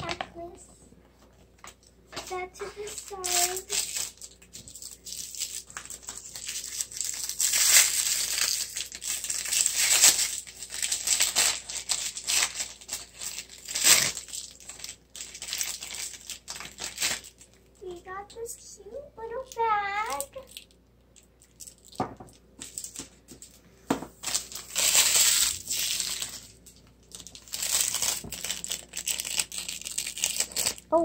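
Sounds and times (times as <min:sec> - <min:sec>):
plastic wrapping crinkling and tearing: 0:00.0 - 0:00.6, 0:01.6 - 0:18.4, 0:19.3 - 0:23.6, 0:24.2 - 0:31.0.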